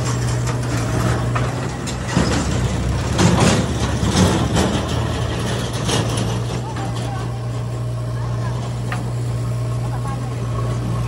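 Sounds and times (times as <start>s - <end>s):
diesel engines running: 0.0s - 11.0s.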